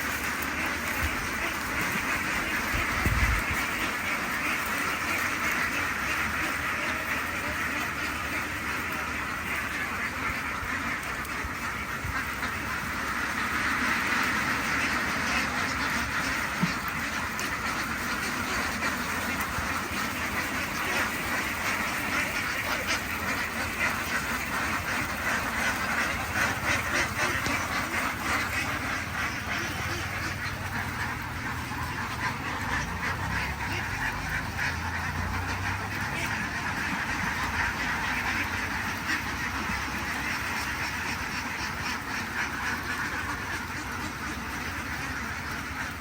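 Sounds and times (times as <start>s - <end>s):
ducks quacking: 0.0s - 46.0s
low steady rumble: 8.8s - 45.9s.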